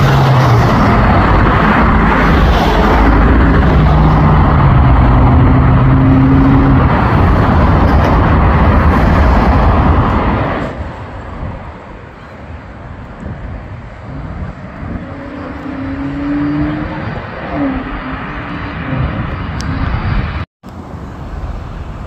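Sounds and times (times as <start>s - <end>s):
engine roar: 0.0s - 12.2s, 12.8s - 22.0s.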